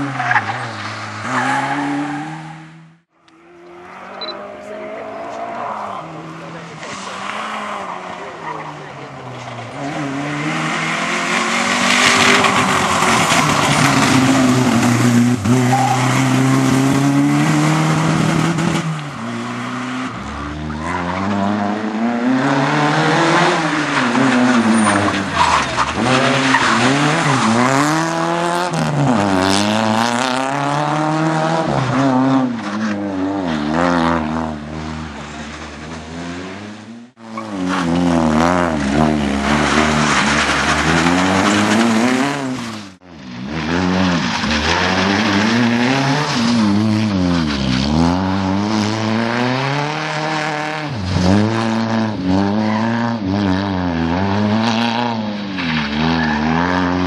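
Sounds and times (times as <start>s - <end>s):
car engine revving and changing gear: 0.0s - 57.0s.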